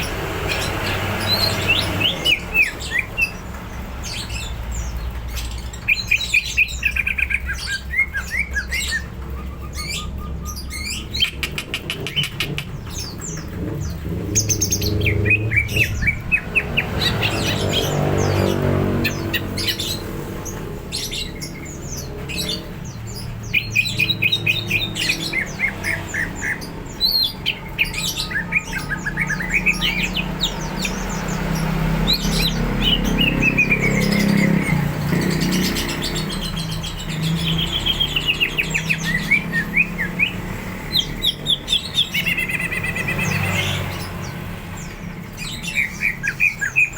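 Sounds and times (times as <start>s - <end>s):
leafbird singing chirps and trills: 0.0s - 46.9s.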